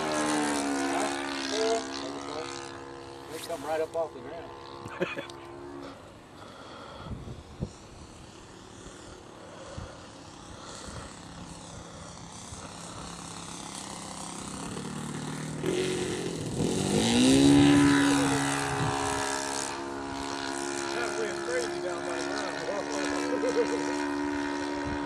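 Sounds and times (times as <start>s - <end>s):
model airplane engine and propeller: 0.0s - 25.0s.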